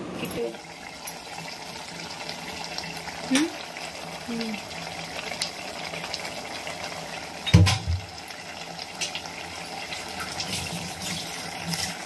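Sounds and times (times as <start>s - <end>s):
thick stew bubbling in a pot: 0.0s - 12.0s.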